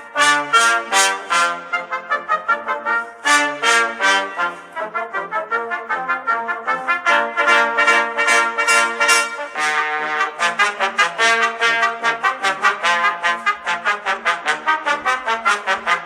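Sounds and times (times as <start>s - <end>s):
brass music with trumpets: 0.0s - 16.0s.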